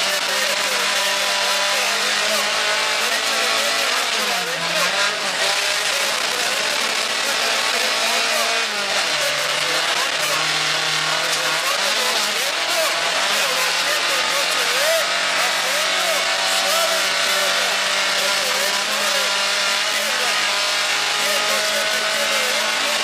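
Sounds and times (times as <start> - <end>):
rally car engine running hard: 0.0 - 23.0.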